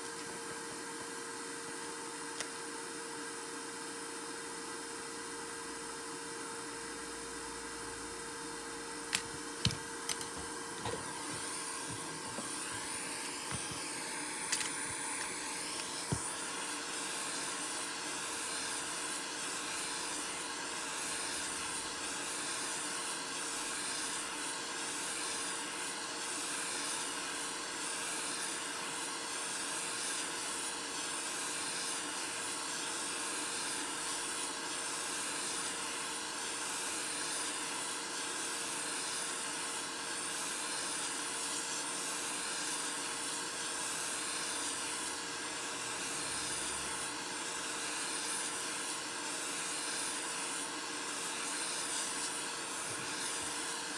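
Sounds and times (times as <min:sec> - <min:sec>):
steady blowing hiss: 0:08.1 - 0:53.9.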